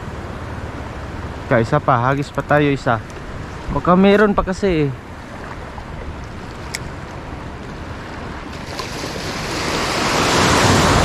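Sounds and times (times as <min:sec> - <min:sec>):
rushing wind: 0:00.0 - 0:11.0
surf: 0:00.0 - 0:11.0.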